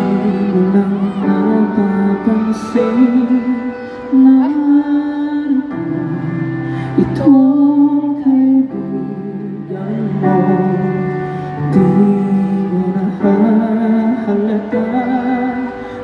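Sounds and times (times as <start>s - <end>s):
instrumental backing music: 0.0s - 16.0s
man singing a slow ballad: 0.0s - 16.0s.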